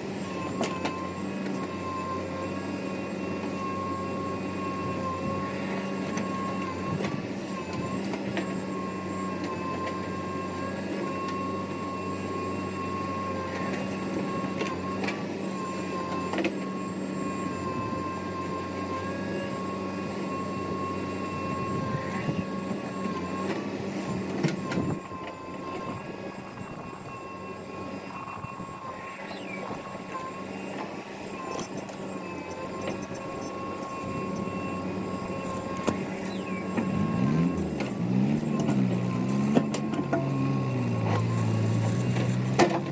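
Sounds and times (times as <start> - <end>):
heavy diesel machine whining: 0.0 - 42.9.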